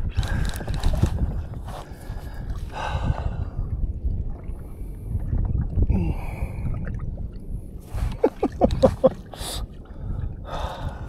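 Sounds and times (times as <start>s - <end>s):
water washing along hull: 0.0s - 11.0s
wind on microphone: 0.0s - 11.0s.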